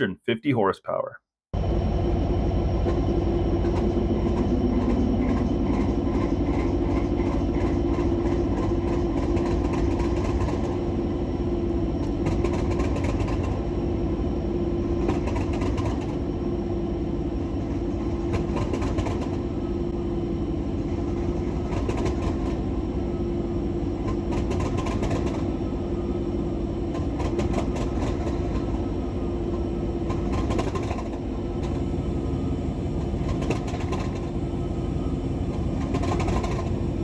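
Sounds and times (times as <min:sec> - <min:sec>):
diesel locomotive engine running: 0:01.6 - 0:37.0.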